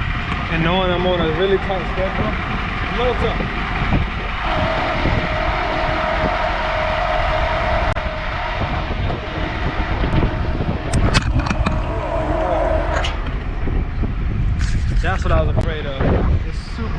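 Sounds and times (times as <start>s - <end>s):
tow truck hydraulics whining: 0.0s - 15.1s
wind buffeting microphone: 0.0s - 16.9s.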